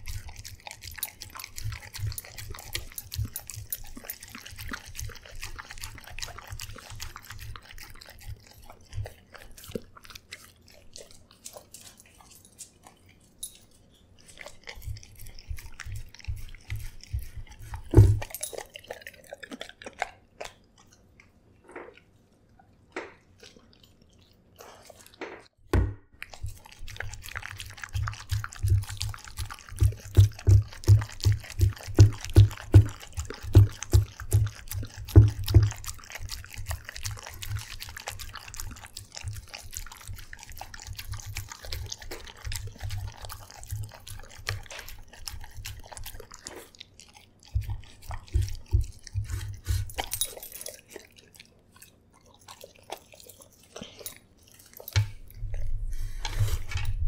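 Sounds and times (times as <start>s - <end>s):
dog chewing and lapping food: 0.0s - 57.0s.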